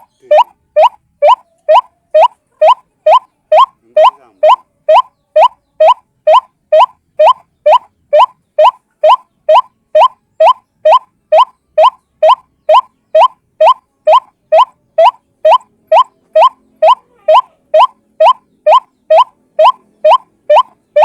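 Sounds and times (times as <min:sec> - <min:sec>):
waterhen upward-sweeping call: 0:00.3 - 0:21.0.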